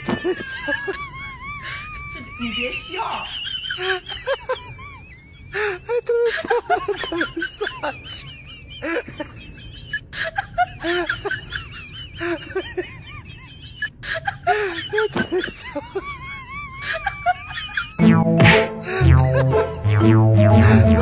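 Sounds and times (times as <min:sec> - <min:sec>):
person laughing and giggling: 0:00.0 - 0:21.0.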